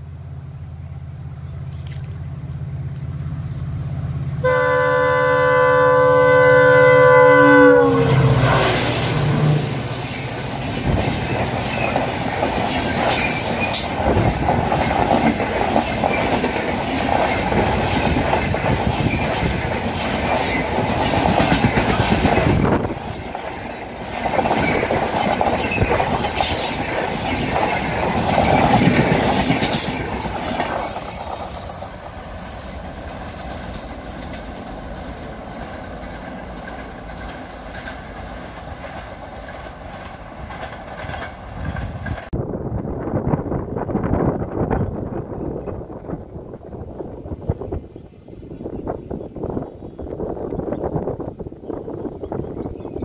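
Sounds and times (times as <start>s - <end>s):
train wheels on rails: 0.0s - 53.0s.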